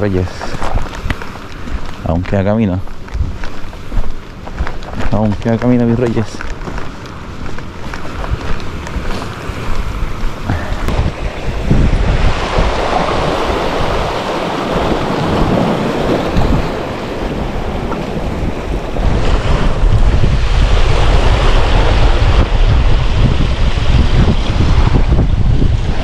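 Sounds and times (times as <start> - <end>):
surf washing against shore: 0.0 - 26.0
wind buffeting microphone: 0.0 - 26.0.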